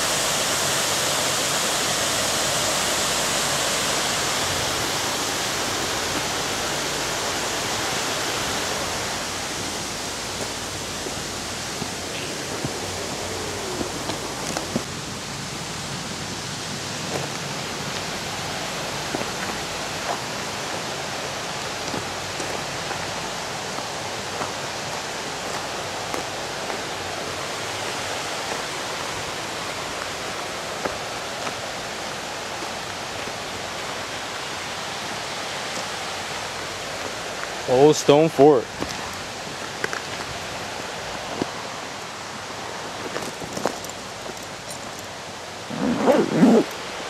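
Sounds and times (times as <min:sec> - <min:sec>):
rush of falling water: 0:00.0 - 0:47.0.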